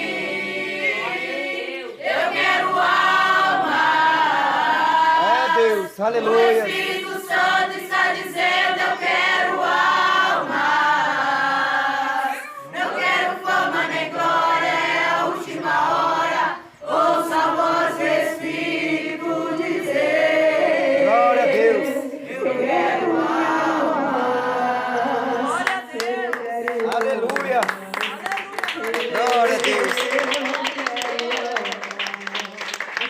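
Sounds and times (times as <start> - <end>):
choir singing gospel song: 0.0 - 27.0, 28.6 - 32.0.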